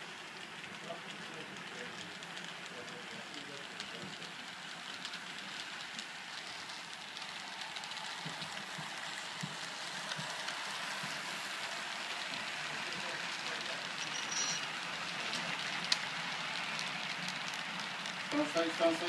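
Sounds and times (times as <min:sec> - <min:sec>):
model trains rattling on track: 0:00.0 - 0:19.0.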